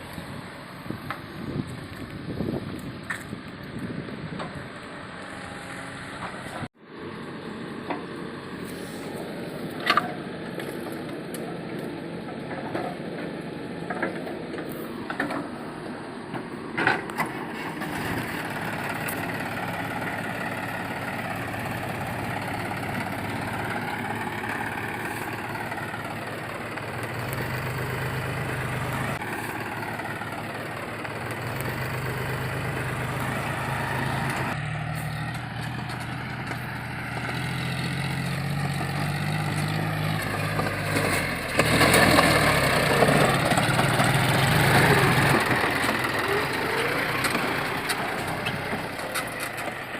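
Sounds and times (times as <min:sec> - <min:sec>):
heavy diesel machinery running: 0:00.0 - 0:49.9.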